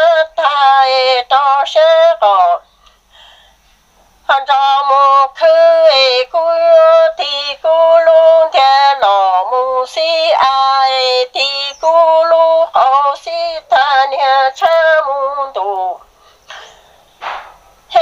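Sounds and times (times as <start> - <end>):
person singing unaccompanied: 0.0 - 3.0, 4.2 - 18.0.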